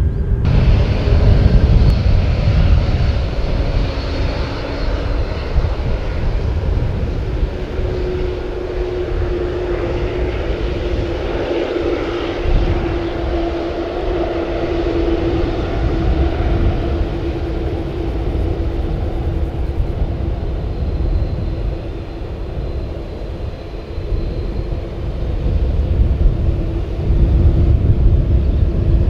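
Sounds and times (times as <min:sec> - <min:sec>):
jet engines low rumble: 0:00.0 - 0:29.0
steady engine hum: 0:00.0 - 0:29.0.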